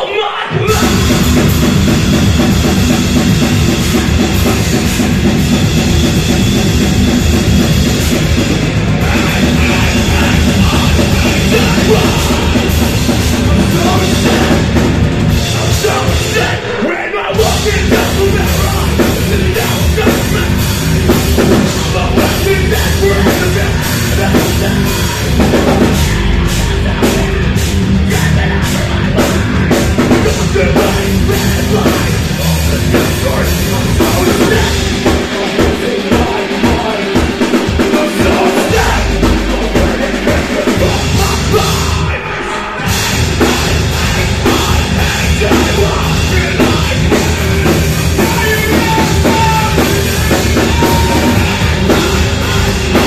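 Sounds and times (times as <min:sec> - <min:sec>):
distorted electric guitars: 0:00.0 - 0:53.0
drum kit: 0:00.0 - 0:53.0.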